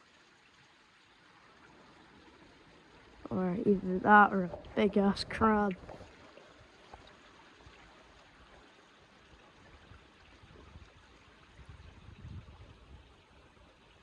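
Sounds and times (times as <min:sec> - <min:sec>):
small waves lapping: 0:00.0 - 0:14.0.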